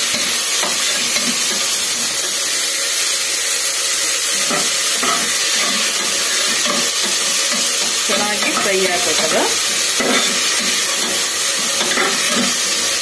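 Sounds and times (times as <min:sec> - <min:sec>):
onion and tomato sizzling in oil: 0:00.0 - 0:13.0.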